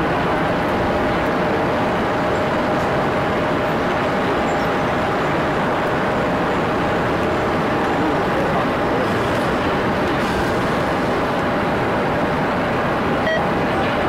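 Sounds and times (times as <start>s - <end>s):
jet engines rumbling with whine: 0.0s - 14.0s.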